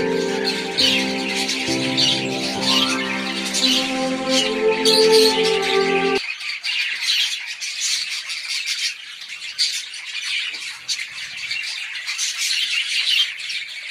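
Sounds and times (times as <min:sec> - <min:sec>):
flock of small birds chirping: 0:00.0 - 0:03.8, 0:06.2 - 0:13.9.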